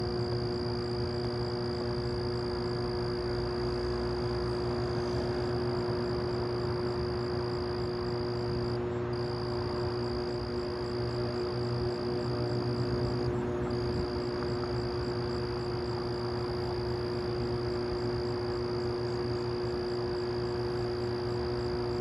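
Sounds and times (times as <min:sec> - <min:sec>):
high whine: 0:00.0 - 0:22.0
humming drone: 0:00.0 - 0:22.0.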